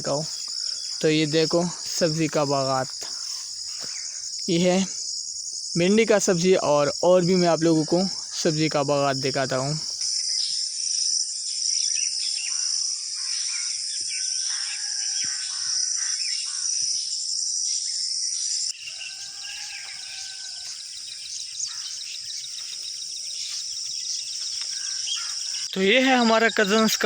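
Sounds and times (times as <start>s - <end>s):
birds chirping: 0.0s - 10.8s, 11.4s - 27.0s
crickets trilling: 0.0s - 27.0s.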